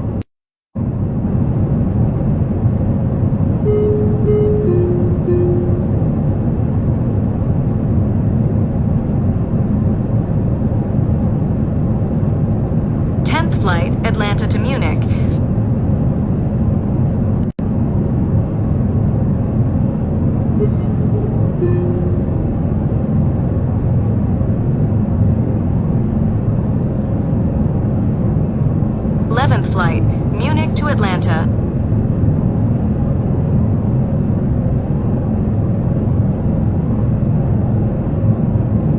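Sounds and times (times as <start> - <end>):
jet airliner rumble: 0.8 - 38.9.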